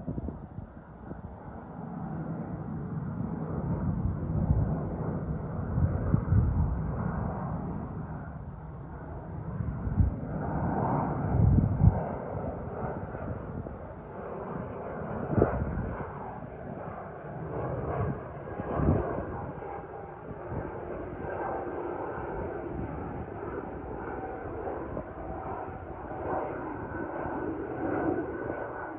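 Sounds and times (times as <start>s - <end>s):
jet engines roaring: 0.1s - 28.9s.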